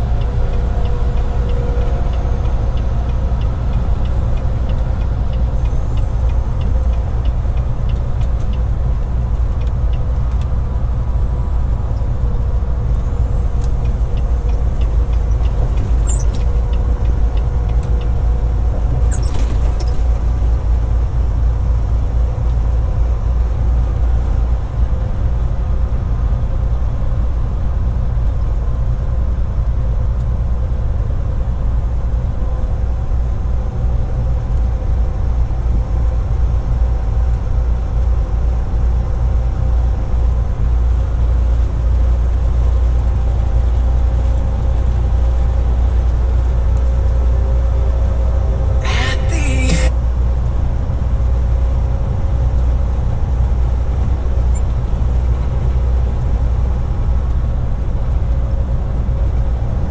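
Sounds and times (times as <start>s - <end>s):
truck cab road rumble: 0.0s - 59.9s.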